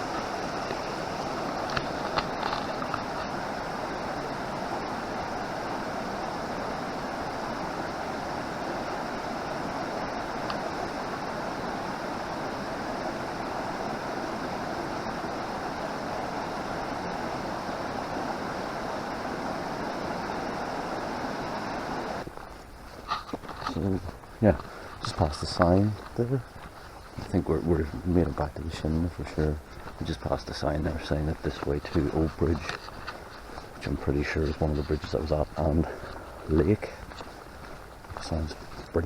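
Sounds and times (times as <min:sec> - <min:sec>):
stream rushing over rocks: 0:00.0 - 0:23.0, 0:23.7 - 0:39.0.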